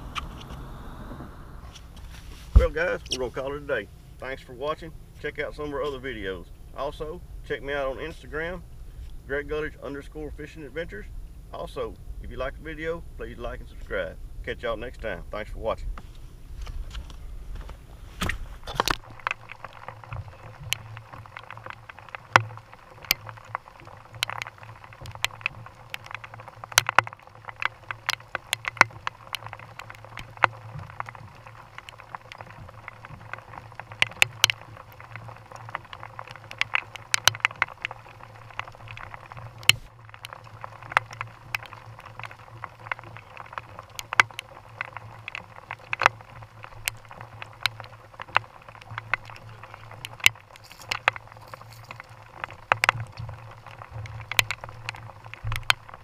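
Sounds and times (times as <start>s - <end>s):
raindrops tapping camera housing: 0.0s - 11.0s, 11.6s - 56.0s
low steady hum: 0.0s - 56.0s.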